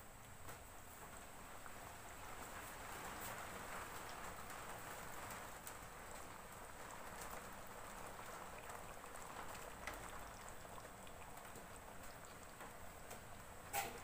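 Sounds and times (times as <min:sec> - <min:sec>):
curry bubbling with small pops: 0:00.2 - 0:14.0.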